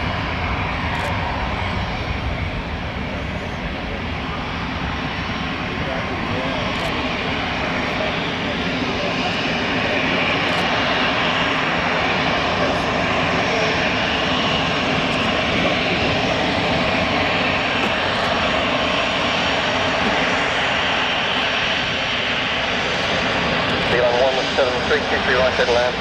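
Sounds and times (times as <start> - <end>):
jet engines roaring at takeoff: 0.0 - 26.0.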